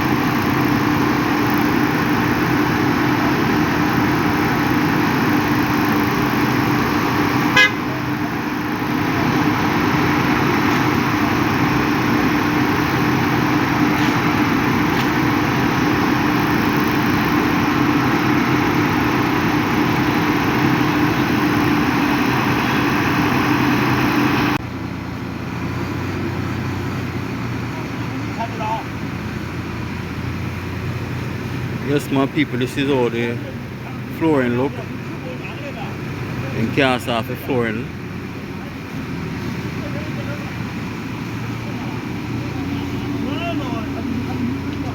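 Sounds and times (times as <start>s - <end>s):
heavy engine running: 0.0s - 44.9s.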